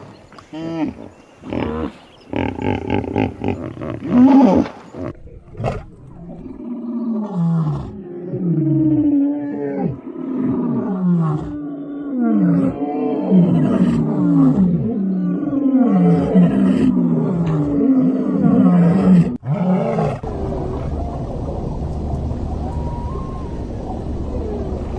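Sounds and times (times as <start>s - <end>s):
animal deep roaring calls: 0.0s - 24.9s.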